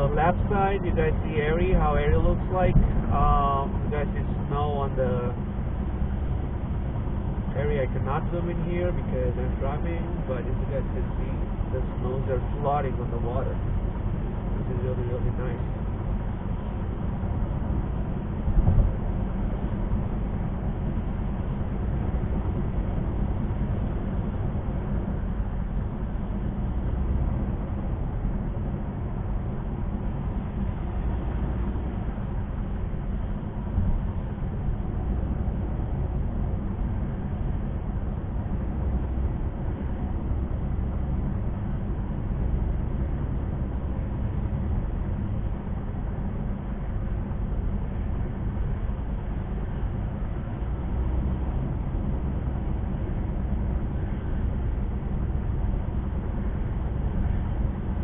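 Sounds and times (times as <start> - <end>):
car cabin road rumble: 0.0 - 58.0.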